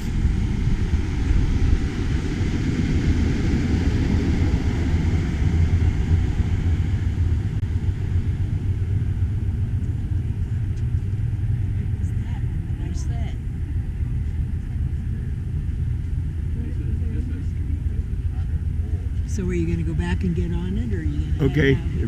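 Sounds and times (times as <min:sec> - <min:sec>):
diesel locomotive idling: 0:00.0 - 0:22.0.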